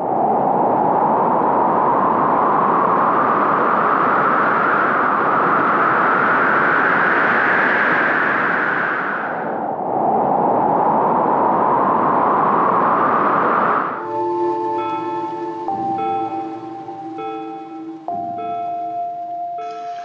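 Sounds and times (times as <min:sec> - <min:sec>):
rising wind-like whoosh: 0:00.0 - 0:20.0.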